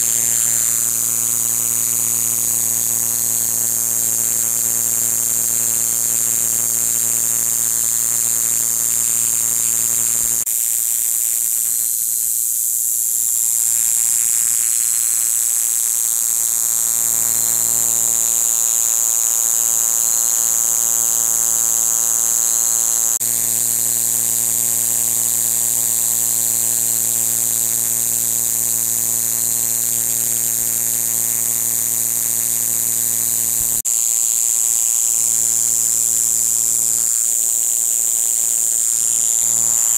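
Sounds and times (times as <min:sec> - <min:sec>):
katydid high-pitched buzz: 0:00.0 - 0:39.9.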